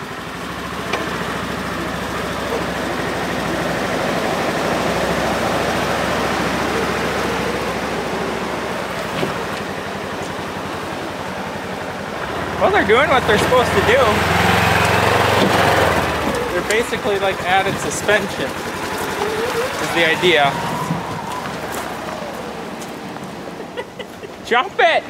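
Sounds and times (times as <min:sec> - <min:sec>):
vehicle engine running: 0:00.0 - 0:24.4.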